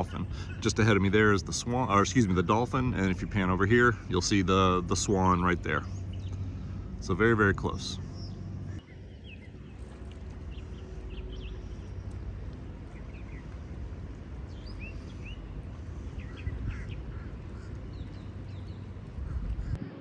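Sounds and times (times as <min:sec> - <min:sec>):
birds chirping: 0:00.0 - 0:19.8
wind rumble on microphone: 0:00.0 - 0:20.0.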